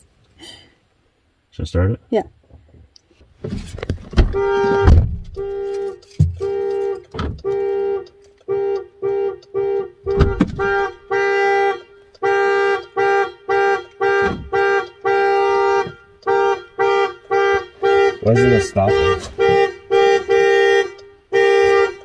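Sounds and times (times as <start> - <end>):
car alarm horn honking: 4.2 - 22.0.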